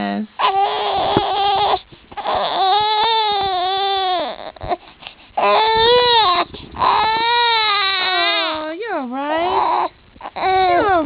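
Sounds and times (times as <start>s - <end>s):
baby crying: 0.4s - 4.8s, 5.4s - 8.6s, 9.4s - 11.0s.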